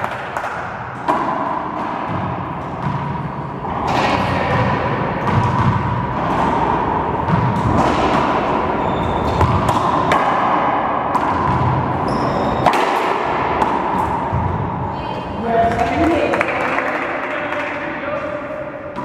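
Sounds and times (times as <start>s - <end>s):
racquetball cracks echoing: 0.0s - 19.0s
steady background noise: 0.0s - 19.0s.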